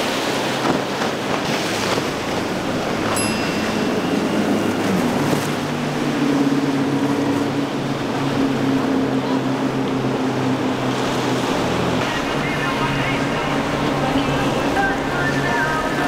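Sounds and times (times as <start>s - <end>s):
boat engine drone: 0.0s - 16.0s
water spray and waves: 0.0s - 16.0s.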